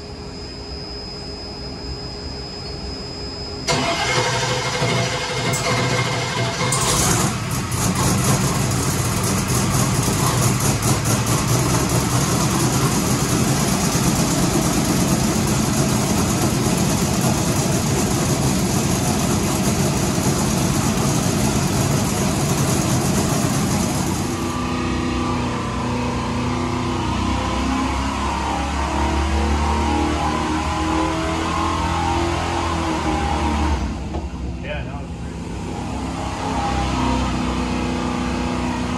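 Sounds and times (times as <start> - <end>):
car engine running loud: 3.7 - 38.9.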